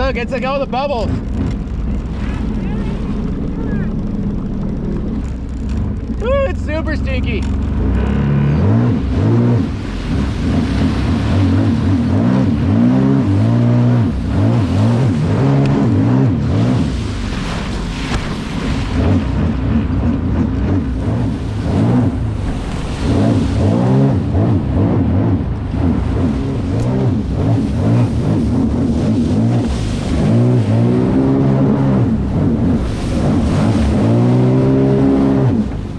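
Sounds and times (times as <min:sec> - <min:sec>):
jet ski engine revving: 0:00.0 - 0:35.9.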